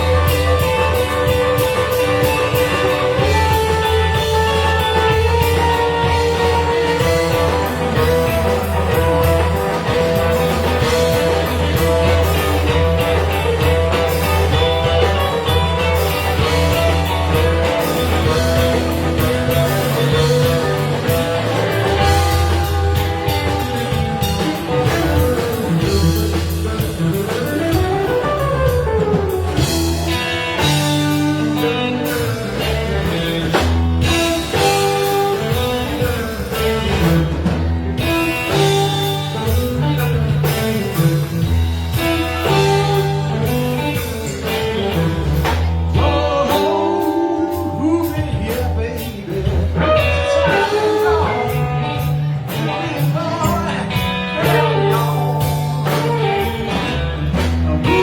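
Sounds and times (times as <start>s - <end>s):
lead guitar: 0.0s - 58.0s
rock band playing blues jam: 0.0s - 58.0s.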